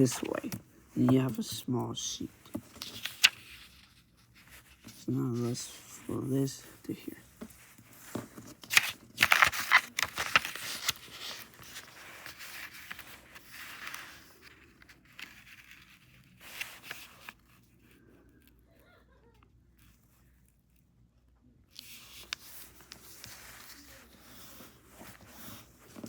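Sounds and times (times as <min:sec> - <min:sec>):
paper rustling and creasing: 0:00.0 - 0:18.5, 0:21.7 - 0:26.0.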